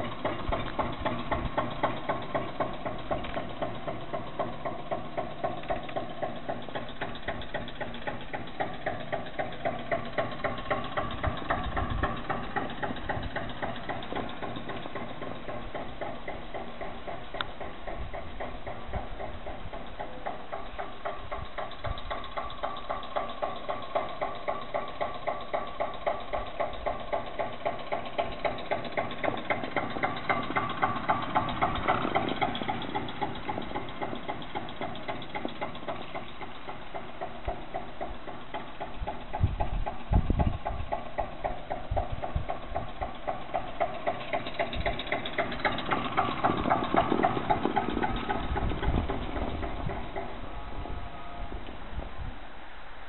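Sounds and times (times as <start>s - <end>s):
diesel tractor engine chugging: 0.0s - 52.2s.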